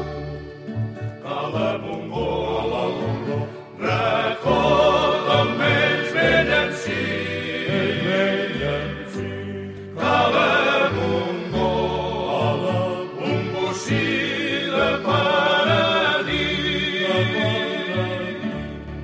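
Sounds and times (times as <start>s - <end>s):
bass accompaniment: 0.0s - 19.0s
group singing in harmony: 0.0s - 19.0s.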